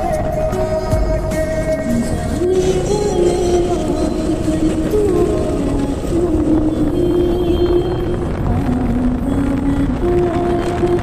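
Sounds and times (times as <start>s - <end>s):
sliding background music melody: 0.0s - 11.0s
steady low rumble: 0.0s - 11.0s.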